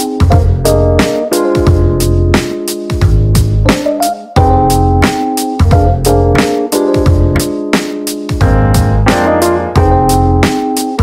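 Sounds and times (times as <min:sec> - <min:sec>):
jazz music: 0:00.0 - 0:11.0.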